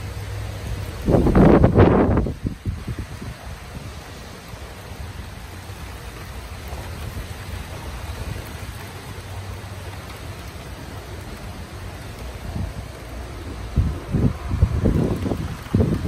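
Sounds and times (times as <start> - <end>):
wind and rain rushing: 0.0 - 16.0
wind rumble on microphone: 0.0 - 16.0.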